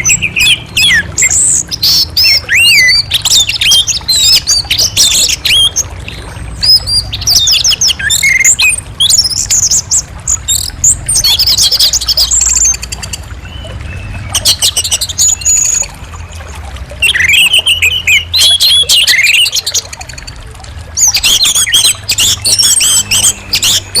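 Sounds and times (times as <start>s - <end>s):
bird singing whistled phrases: 0.0s - 5.8s, 6.6s - 16.0s, 17.0s - 20.4s, 21.0s - 24.0s.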